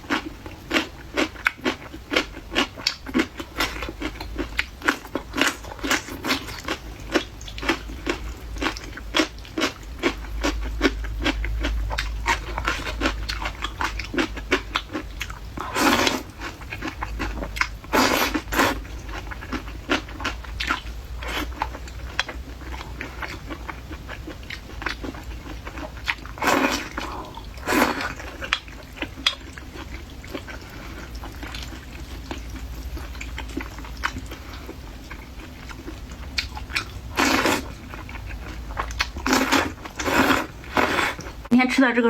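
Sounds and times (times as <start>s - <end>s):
chewing with wet mouth clicks: 0.0s - 41.4s
bites and slurps: 0.1s - 41.4s.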